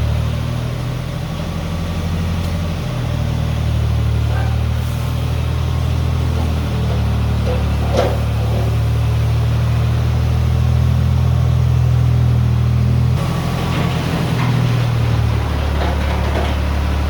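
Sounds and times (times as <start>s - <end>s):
engine running with low drone: 0.0s - 17.0s.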